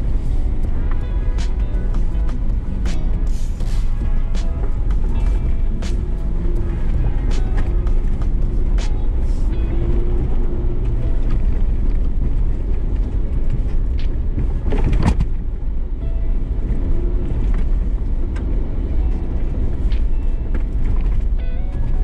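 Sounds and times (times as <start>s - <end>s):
engine and tyres rumbling: 0.0s - 22.0s.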